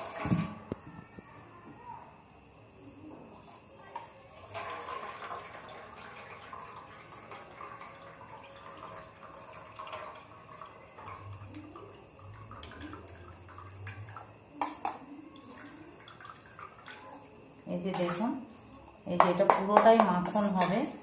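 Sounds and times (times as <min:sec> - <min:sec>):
liquid trickling into steel pot: 0:03.8 - 0:21.0.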